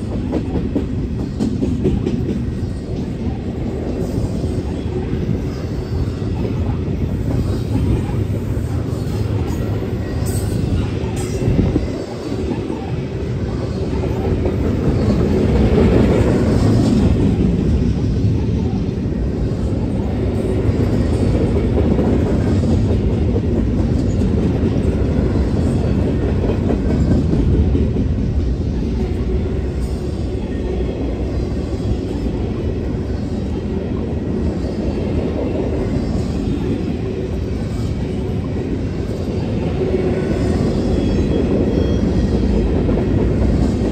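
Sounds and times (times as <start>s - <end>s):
train wheels running on rails: 0.0s - 43.9s.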